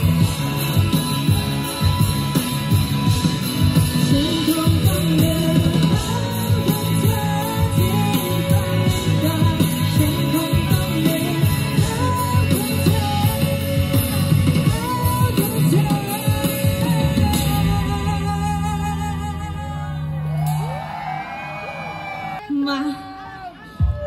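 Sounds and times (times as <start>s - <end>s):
woman singing pop-rock song: 0.0s - 20.0s
guitar: 0.0s - 21.0s
drums: 0.0s - 22.4s, 23.4s - 24.0s.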